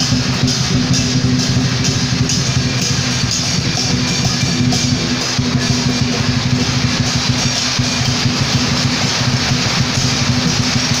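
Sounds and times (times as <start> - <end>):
heavy rain hiss: 0.0 - 11.0.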